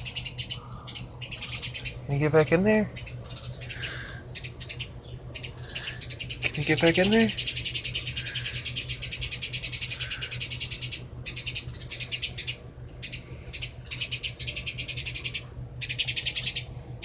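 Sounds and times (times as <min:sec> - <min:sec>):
young bird chirping rapidly: 0:00.0 - 0:16.8.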